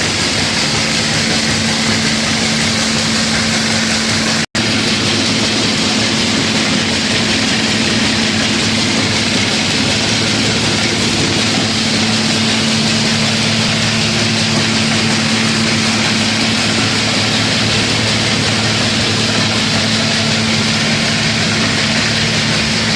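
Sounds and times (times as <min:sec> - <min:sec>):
grinder machine hum and hiss: 0:00.0 - 0:22.9.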